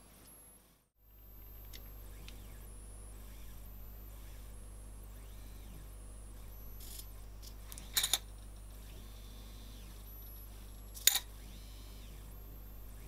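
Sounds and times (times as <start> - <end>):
stepper motors whining faintly: 0.0 - 13.0.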